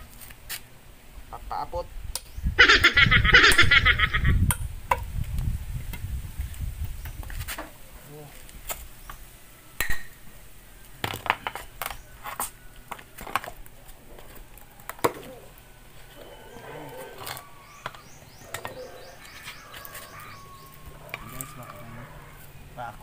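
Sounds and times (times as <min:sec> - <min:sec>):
faint birds chirping: 0:00.6 - 0:04.5, 0:05.2 - 0:23.0.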